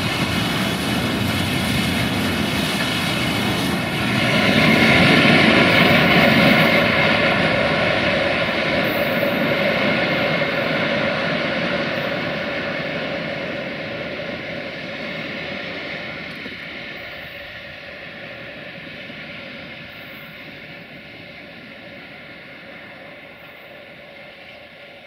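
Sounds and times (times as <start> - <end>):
distant locomotive drone: 0.0 - 25.0
freight train rumbling past: 0.0 - 25.0.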